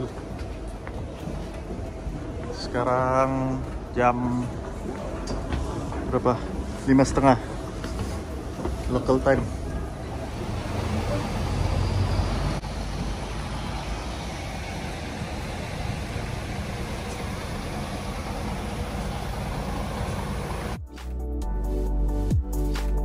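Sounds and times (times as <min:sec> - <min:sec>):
road noise: 0:00.0 - 0:20.8
vehicle engine rumble: 0:00.0 - 0:21.0.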